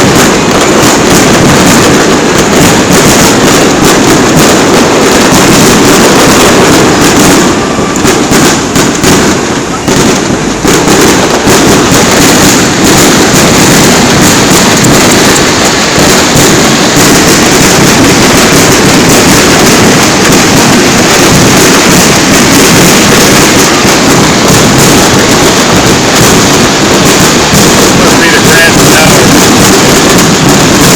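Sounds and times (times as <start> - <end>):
fireworks bursting: 0.0 - 30.9.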